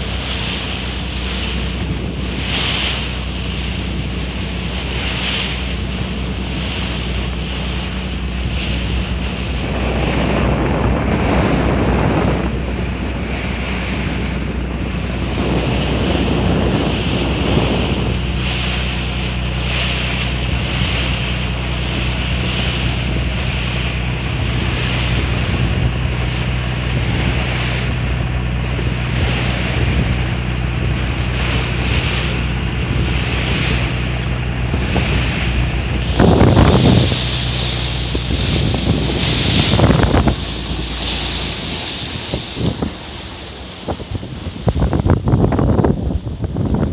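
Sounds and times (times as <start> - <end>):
boat engine humming: 0.0 - 46.9
water splashing along hull: 0.0 - 46.9
wind buffeting microphone: 0.0 - 46.9.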